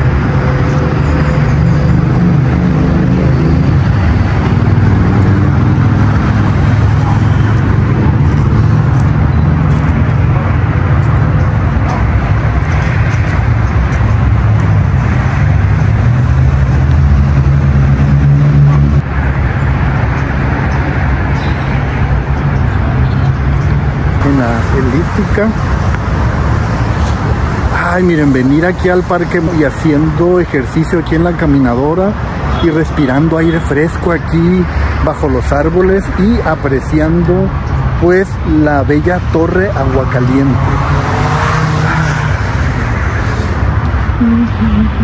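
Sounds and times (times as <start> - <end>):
road traffic: 0.0 - 45.0.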